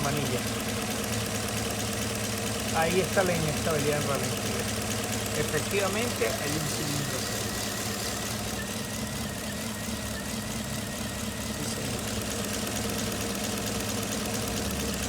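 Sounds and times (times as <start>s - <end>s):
car engine idling roughly: 0.0s - 15.0s.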